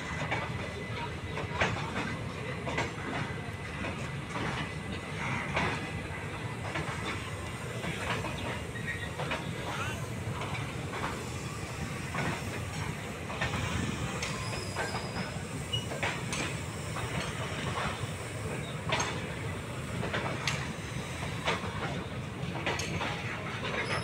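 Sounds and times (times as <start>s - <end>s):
wheels clacking over rail joints: 0.0s - 24.0s
wheels rumbling on rails: 0.0s - 24.0s.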